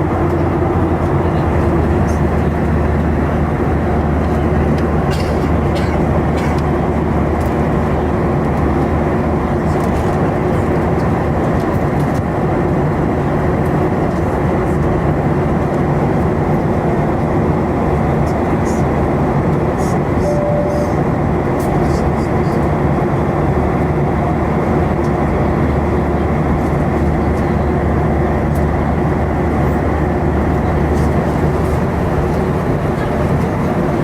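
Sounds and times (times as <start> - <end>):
airplane cabin drone: 0.0 - 34.0.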